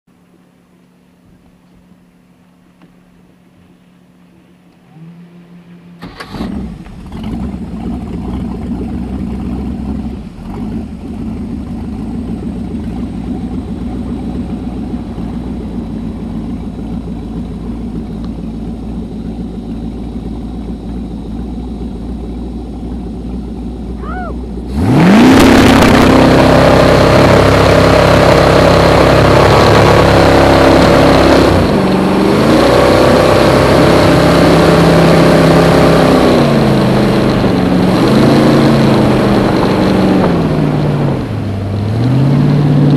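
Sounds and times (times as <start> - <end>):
boat engine idling and revving: 0.1 - 42.9
rush of boat wake: 0.1 - 42.9.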